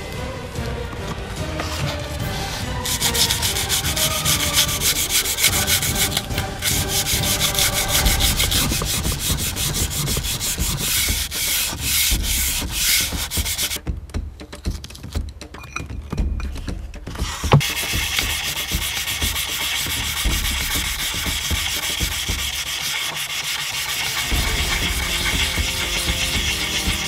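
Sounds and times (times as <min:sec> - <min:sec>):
sandpaper scraping: 0:01.6 - 0:13.8, 0:17.1 - 0:27.0.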